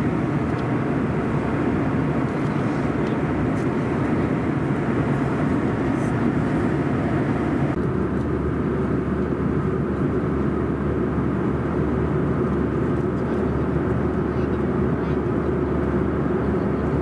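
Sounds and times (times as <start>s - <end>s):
jet cabin engine rumble: 0.0s - 17.0s.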